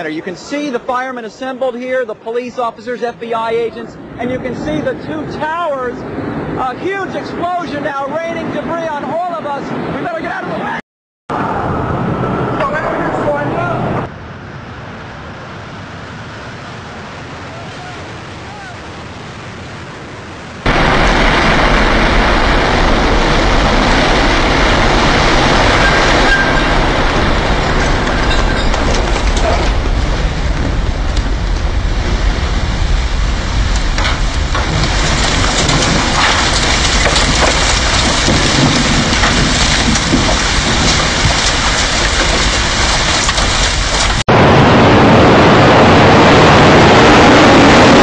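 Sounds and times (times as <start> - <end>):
building collapsing roar: 2.8 - 48.0.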